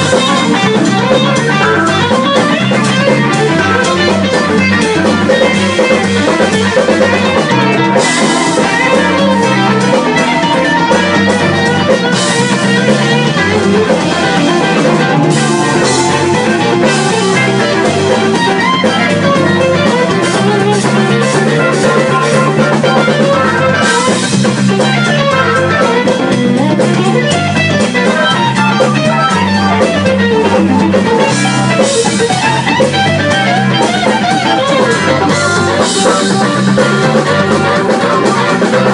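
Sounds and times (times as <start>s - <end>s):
blues band playing: 0.0s - 38.9s
drum kit: 0.0s - 38.9s
electric guitars: 0.0s - 38.9s.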